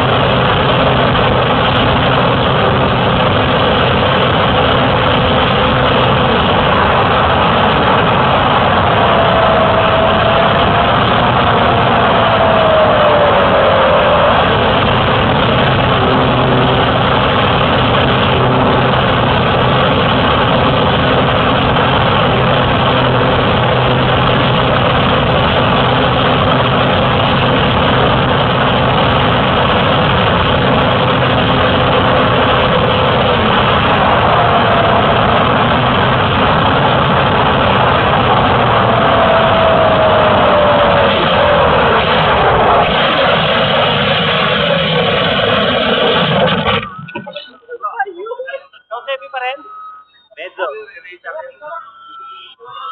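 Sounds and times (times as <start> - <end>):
light aircraft engine and propeller: 0.0 - 47.4
thin whine sliding down: 0.0 - 47.6.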